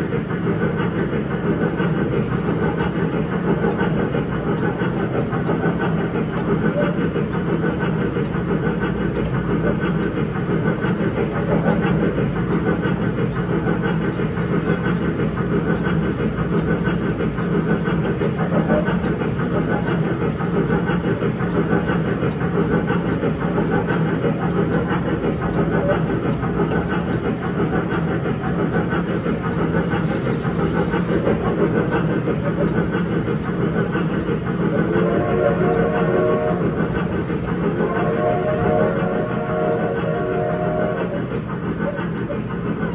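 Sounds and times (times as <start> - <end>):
ride train rumble: 0.0 - 42.9
train sound effects: 0.0 - 42.9.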